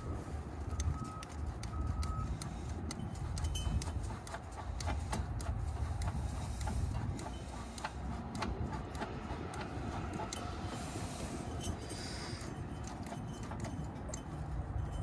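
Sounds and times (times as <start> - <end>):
swaging tool metallic clicks: 0.7 - 15.0.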